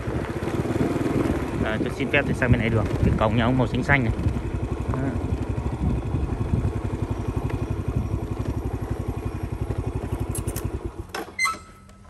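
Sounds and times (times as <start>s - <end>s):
small motorbike engine idling: 0.0s - 12.0s.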